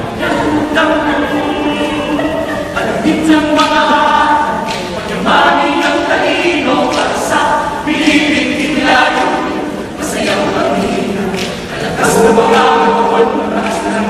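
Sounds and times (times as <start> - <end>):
choir singing a cappella: 0.0 - 14.0.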